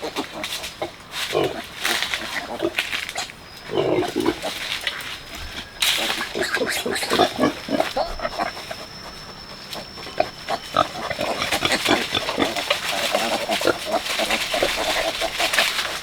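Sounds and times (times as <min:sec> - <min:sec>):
pigs grunting: 0:00.0 - 0:16.0
pigs squealing: 0:00.0 - 0:16.0.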